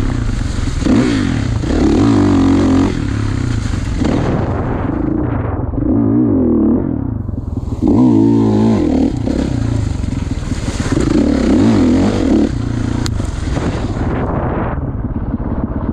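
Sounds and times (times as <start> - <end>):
motorcycle engine revving: 0.0 - 15.9
wind rushing: 0.0 - 15.9.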